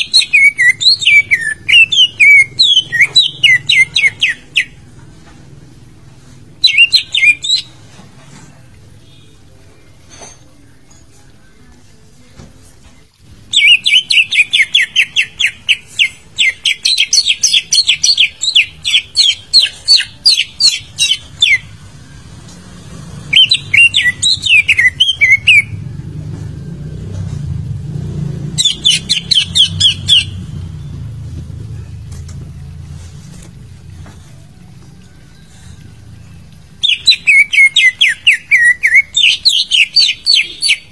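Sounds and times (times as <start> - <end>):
bird song with repeated chirps: 0.0 - 5.4, 6.4 - 11.9, 12.9 - 26.1, 27.0 - 40.9.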